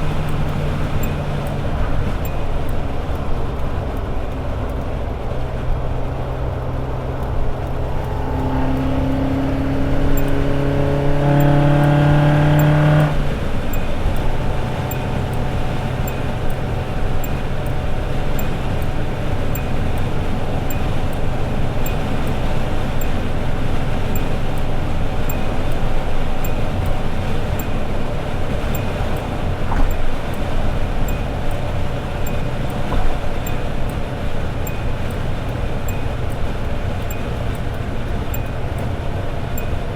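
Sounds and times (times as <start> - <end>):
car engine pulling hard: 0.0 - 39.9
road noise: 0.0 - 39.9.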